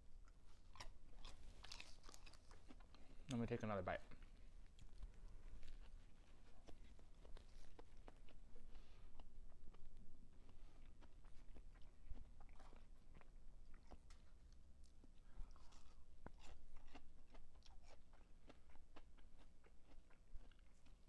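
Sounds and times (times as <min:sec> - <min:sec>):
person chewing food: 0:00.1 - 0:03.4, 0:04.0 - 0:21.0.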